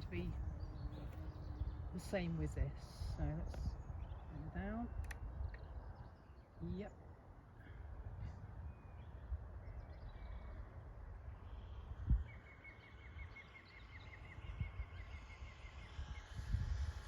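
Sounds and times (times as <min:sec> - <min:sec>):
wind buffeting microphone: 0:00.0 - 0:13.3, 0:14.0 - 0:17.0.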